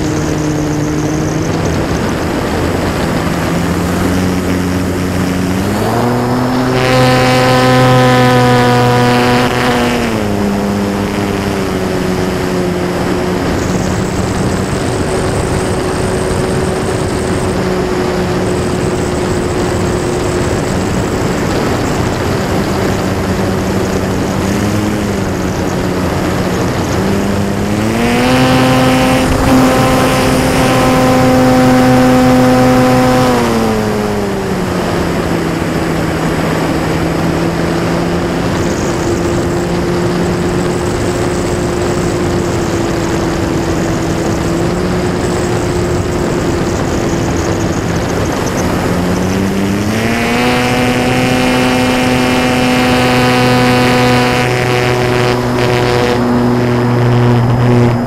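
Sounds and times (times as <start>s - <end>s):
electric motor and propeller hum: 0.0s - 58.0s
rushing air: 0.0s - 58.0s.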